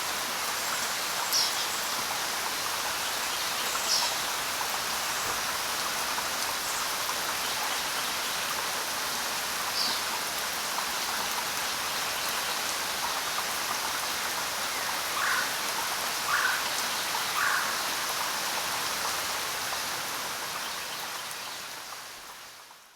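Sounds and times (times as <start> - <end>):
heavy rain in a forest: 0.0 - 22.9.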